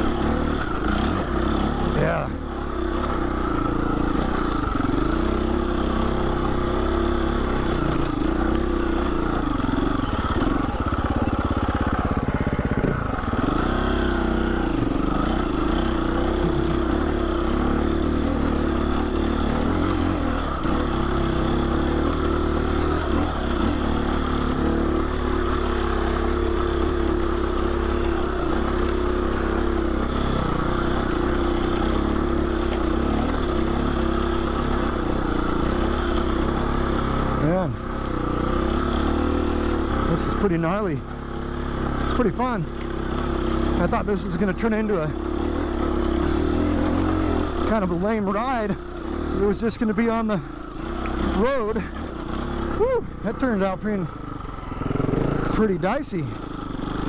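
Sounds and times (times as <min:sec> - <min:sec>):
motorcycle engine revving under load: 0:00.0 - 0:57.0.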